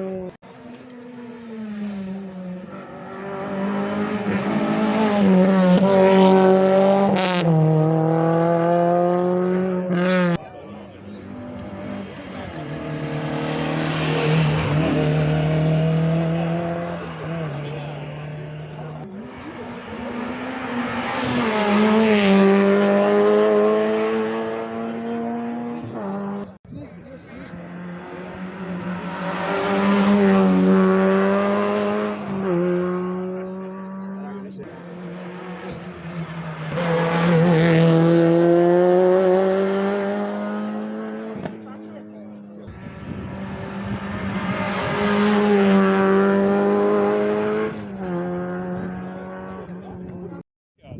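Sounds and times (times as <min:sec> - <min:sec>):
rally car engine at high revs: 0:00.0 - 0:50.4.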